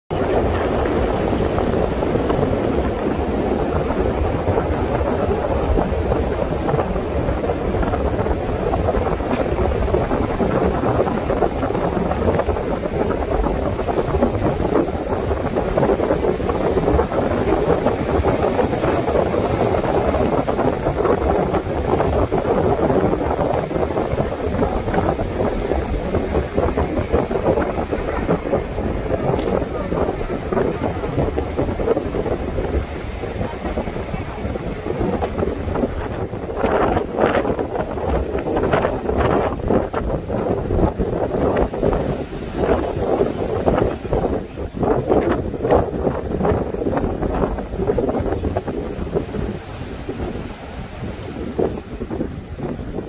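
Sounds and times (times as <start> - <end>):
sea waves breaking on rocks: 0.1 - 53.0
wind buffeting microphone: 0.1 - 53.0.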